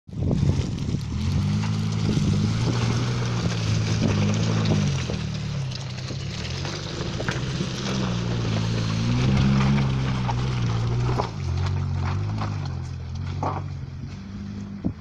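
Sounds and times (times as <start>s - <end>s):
car engine pulling under load: 0.1s - 15.0s
vehicle knocking over ruts: 0.1s - 15.0s.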